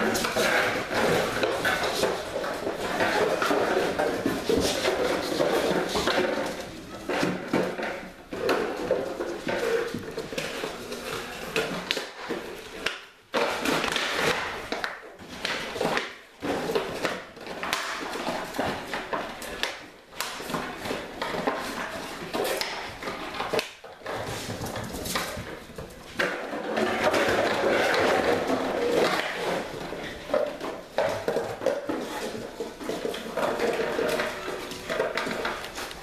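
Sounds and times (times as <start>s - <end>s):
puppies scuffling on tile floor: 0.0s - 36.0s.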